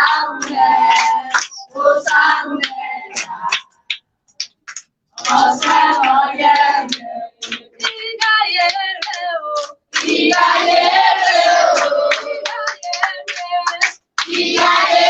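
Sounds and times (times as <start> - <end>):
children and women singing: 0.0 - 4.0, 5.1 - 15.0
hand claps: 0.0 - 15.0.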